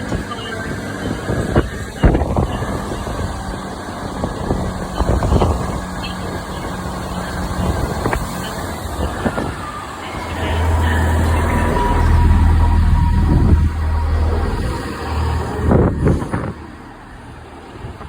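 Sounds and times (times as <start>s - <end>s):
diesel train running: 0.0s - 18.0s
low engine drone: 0.0s - 18.0s.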